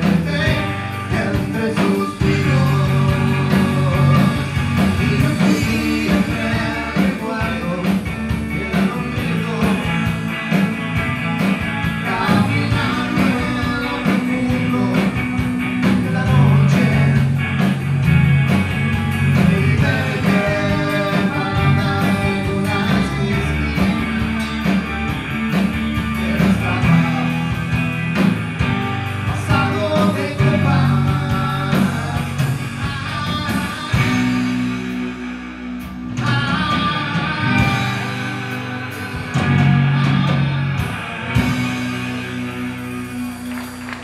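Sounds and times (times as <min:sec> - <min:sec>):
drums: 0:00.0 - 0:44.0
electric guitars: 0:00.0 - 0:44.0.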